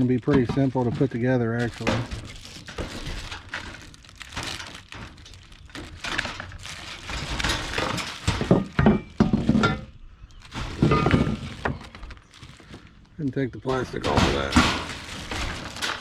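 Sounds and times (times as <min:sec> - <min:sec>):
metal parts knocking and clunking: 0:00.2 - 0:12.9, 0:13.6 - 0:16.0
packaging rustling: 0:00.3 - 0:16.0.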